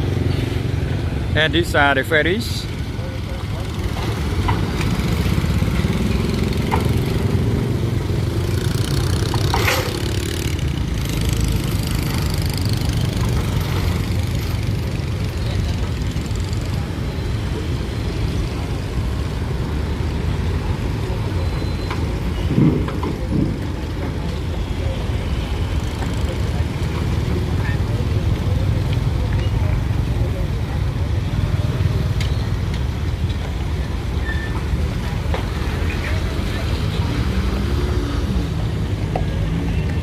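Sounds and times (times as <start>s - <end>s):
engines idling: 0.0s - 40.0s.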